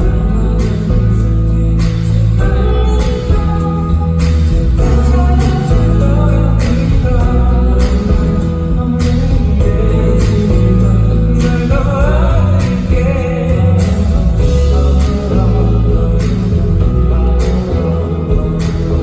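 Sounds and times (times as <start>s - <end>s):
band music with singer: 0.0s - 19.0s
heavy bass: 0.0s - 19.0s.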